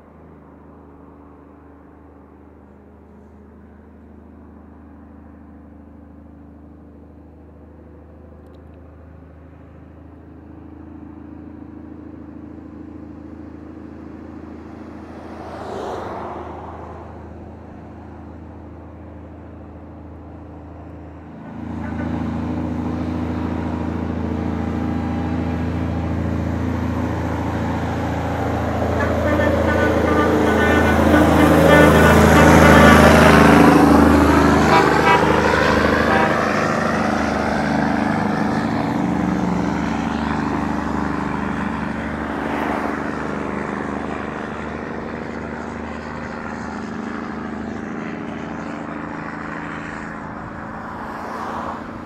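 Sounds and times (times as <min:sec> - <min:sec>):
truck diesel engine drone: 0:00.0 - 0:52.0.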